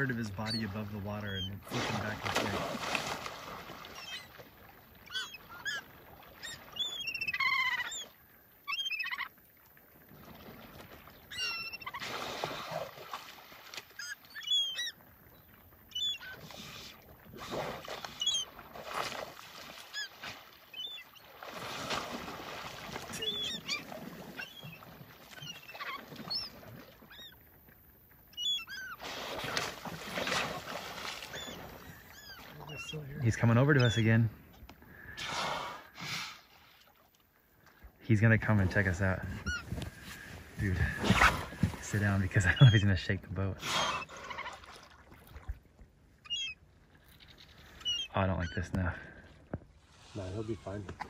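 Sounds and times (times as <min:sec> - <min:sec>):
gulls calling: 0:00.0 - 0:09.6, 0:11.0 - 0:13.2, 0:13.8 - 0:17.2, 0:17.8 - 0:35.2, 0:38.1 - 0:44.8, 0:46.2 - 0:49.6
water splashing: 0:00.0 - 0:35.2, 0:36.5 - 0:51.0.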